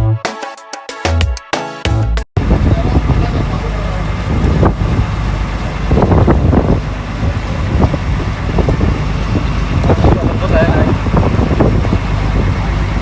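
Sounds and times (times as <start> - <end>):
boat engine running: 2.4 - 13.0
wind buffeting microphone: 2.4 - 13.0.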